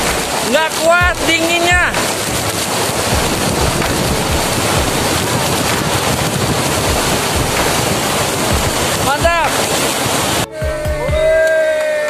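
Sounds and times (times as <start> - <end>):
wind buffeting microphone: 0.0 - 10.5
waterfall rushing: 0.0 - 12.0.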